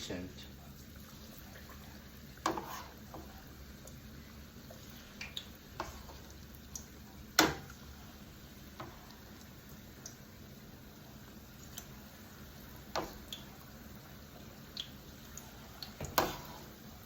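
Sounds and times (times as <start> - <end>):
liquid bubbling in a pan: 0.0 - 17.0.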